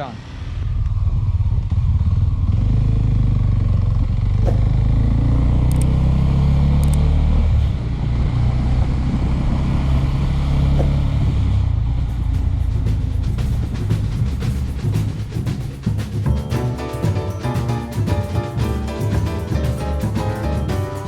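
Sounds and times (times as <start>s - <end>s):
motorcycle engine running: 0.4s - 21.0s.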